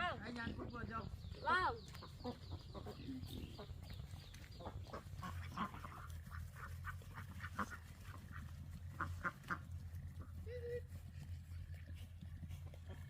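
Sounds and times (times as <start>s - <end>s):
poultry calling: 0.0s - 10.9s.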